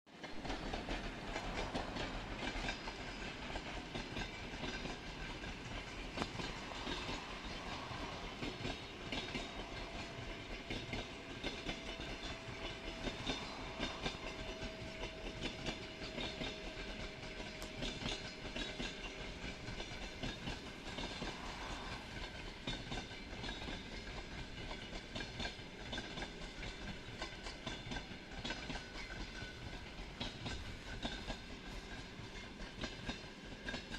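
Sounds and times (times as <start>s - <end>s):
train wheels clickety-clack: 0.1s - 33.9s.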